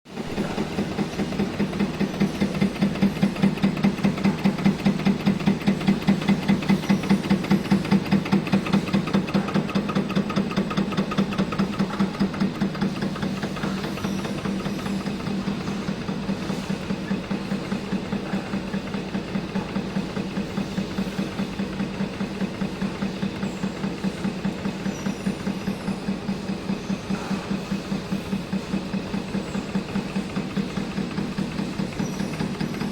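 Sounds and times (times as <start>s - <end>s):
steady machine hum: 0.1s - 32.9s.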